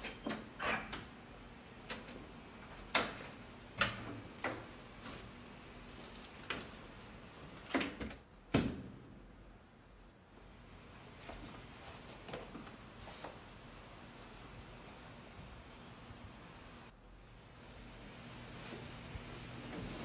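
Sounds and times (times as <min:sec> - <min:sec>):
low room noise: 0:00.0 - 0:20.0.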